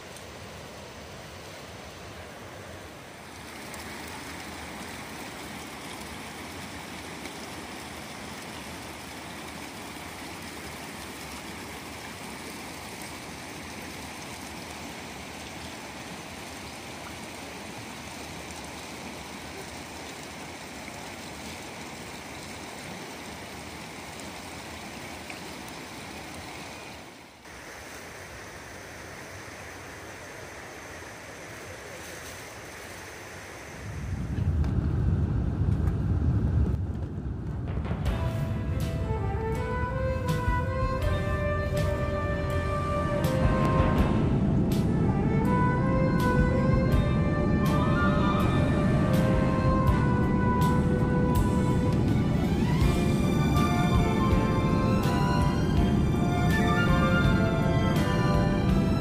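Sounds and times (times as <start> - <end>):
water rushing: 0.0 - 35.3, 37.7 - 59.0.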